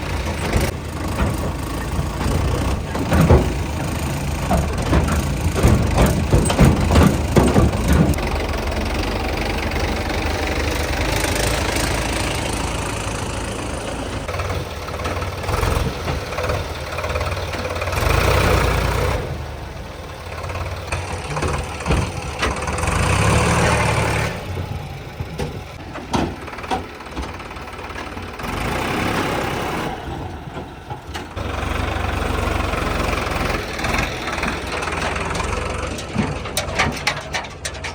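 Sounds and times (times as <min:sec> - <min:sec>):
tractor diesel engines running: 0:00.0 - 0:37.9.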